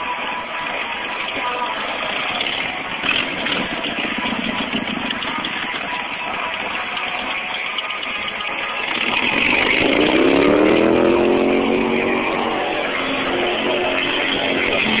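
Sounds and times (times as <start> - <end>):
motorcycle engine idling: 1.4 - 15.0.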